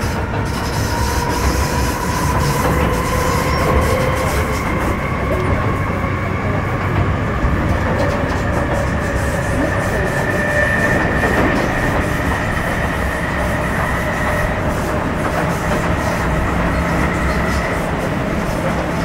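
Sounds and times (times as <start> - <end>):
high traction whine: 0.0 - 19.0
train wheels rumbling on rail: 0.0 - 19.0.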